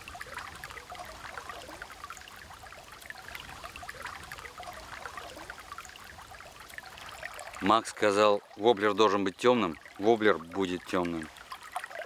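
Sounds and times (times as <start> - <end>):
river water babbling: 0.0 - 12.0.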